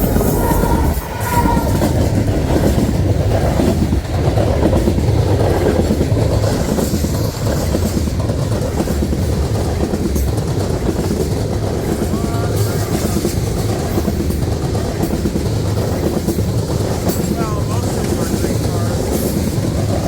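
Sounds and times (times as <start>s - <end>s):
train wheels rumbling on rails: 0.0s - 20.0s
wheels clattering over rail joints: 0.0s - 20.0s.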